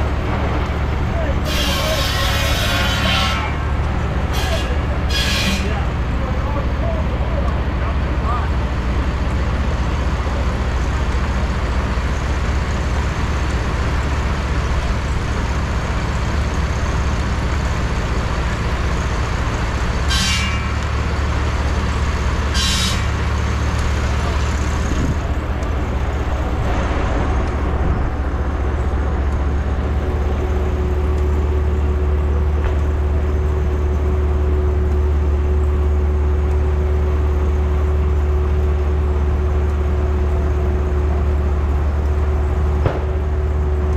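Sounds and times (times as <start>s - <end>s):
steam engine rumbling: 0.0s - 43.9s.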